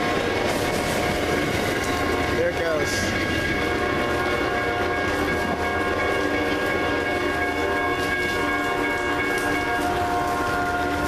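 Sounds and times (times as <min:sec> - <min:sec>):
train cars rolling on rails: 0:00.0 - 0:11.0
train horn chord: 0:02.0 - 0:11.0.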